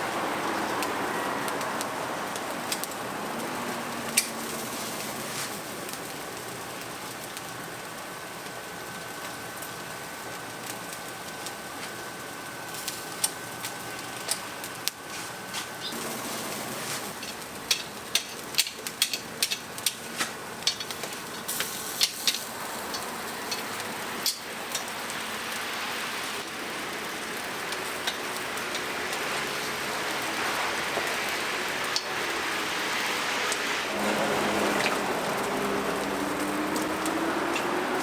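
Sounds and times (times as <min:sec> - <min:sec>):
chicken sizzling: 0:00.0 - 0:38.0
wood fire crackling: 0:00.0 - 0:38.0.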